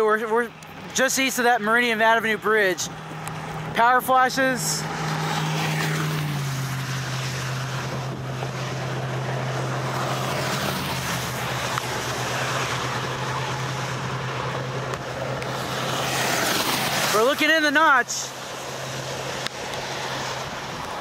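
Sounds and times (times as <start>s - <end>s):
wind and rain: 0.0s - 3.8s, 4.8s - 21.0s
vehicle engine hum: 0.0s - 21.0s.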